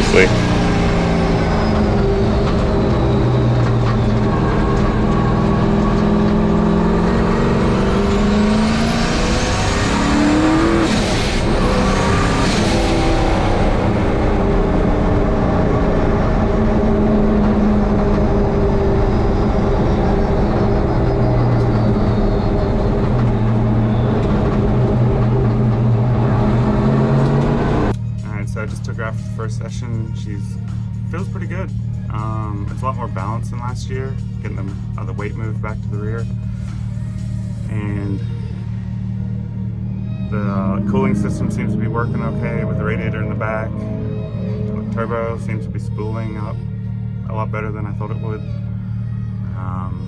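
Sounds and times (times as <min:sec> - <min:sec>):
high whine: 0:00.0 - 0:50.0
race truck engine running hard: 0:00.0 - 0:50.0.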